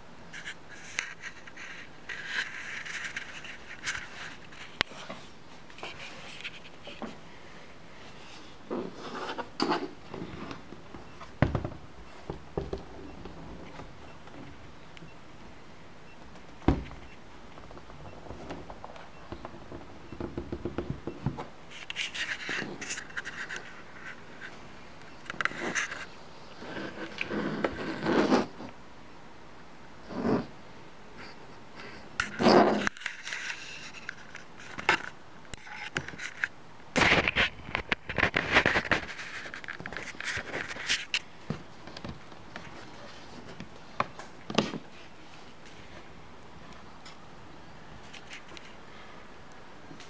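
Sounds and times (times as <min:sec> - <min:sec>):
soft rustling and scraping: 0:00.3 - 0:15.2, 0:16.2 - 0:28.8, 0:31.2 - 0:46.9.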